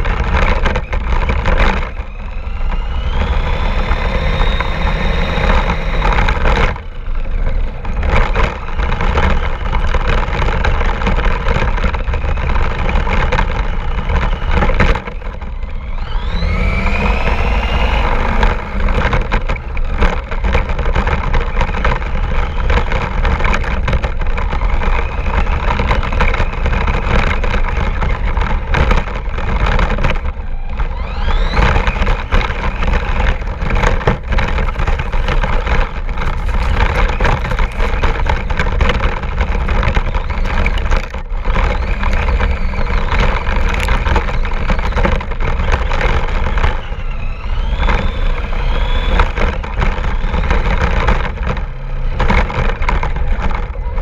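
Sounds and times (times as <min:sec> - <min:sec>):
heavy steady rumble: 0:00.0 - 0:54.0
knocks and bumps: 0:00.0 - 0:54.0
remote control car motor whining: 0:00.0 - 0:54.0.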